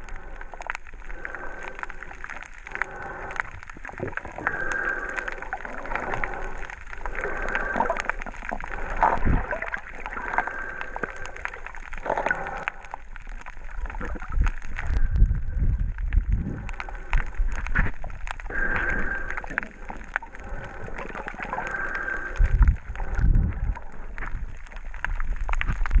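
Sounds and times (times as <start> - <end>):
low rumbles: 0.0 - 26.0
underwater water movement and bubbling: 0.0 - 26.0.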